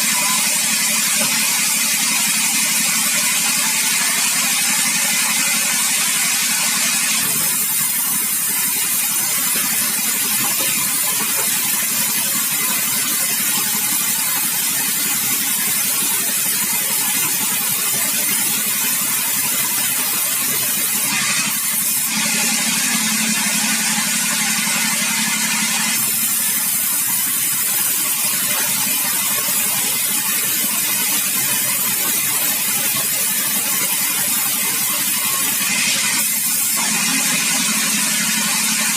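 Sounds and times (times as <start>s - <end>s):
sawmill machinery with hiss: 0.0s - 38.9s.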